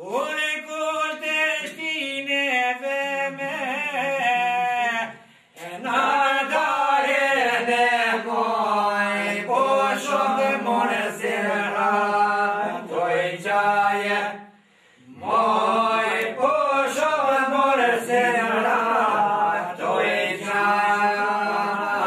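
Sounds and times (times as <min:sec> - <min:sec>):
men singing polyphony: 0:00.0 - 0:22.0.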